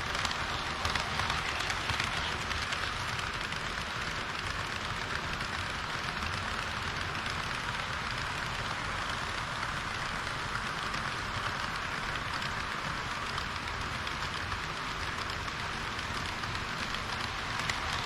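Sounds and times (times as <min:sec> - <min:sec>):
model train wheels hissing: 0:00.0 - 0:18.0.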